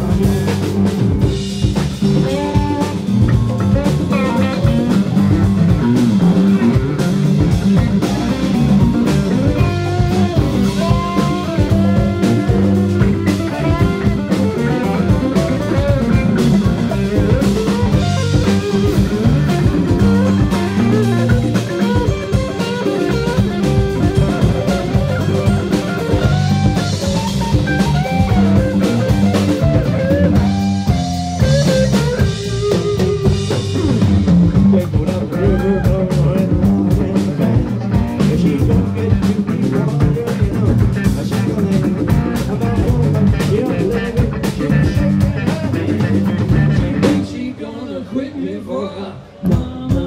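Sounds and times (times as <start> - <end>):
rock band playing: 0.0 - 47.6
lead guitar line: 0.0 - 48.1.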